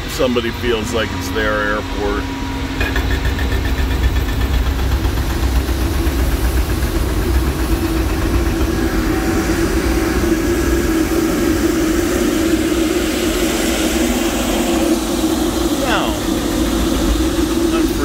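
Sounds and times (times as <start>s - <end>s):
diesel engine idling: 0.0s - 18.0s
jet engines of taxiing plane: 0.0s - 18.0s.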